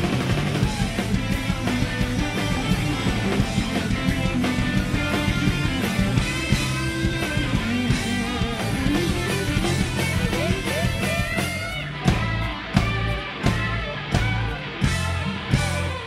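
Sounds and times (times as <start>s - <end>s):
electric guitar lead: 0.0s - 16.0s
rock band playing: 0.0s - 16.0s.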